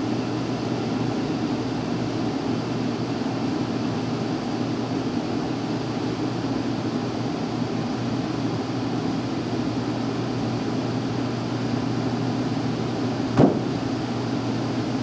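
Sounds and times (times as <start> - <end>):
furnace blower running: 0.0 - 15.0.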